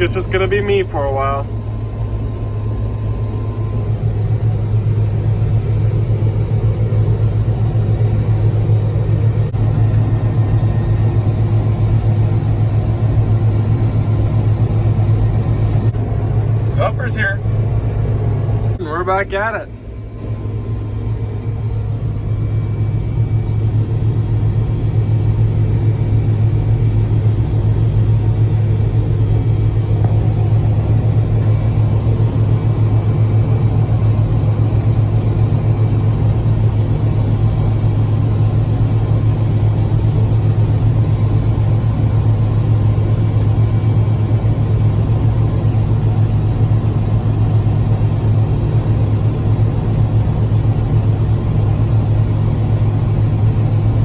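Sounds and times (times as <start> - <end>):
harvester engine droning: 0.0 - 54.0.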